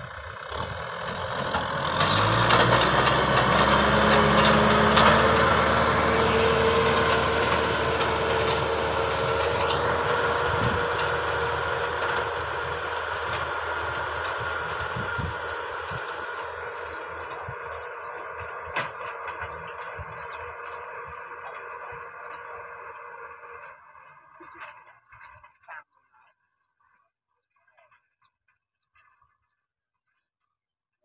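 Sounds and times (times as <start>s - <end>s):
tractor diesel engine under load: 0.0s - 26.2s.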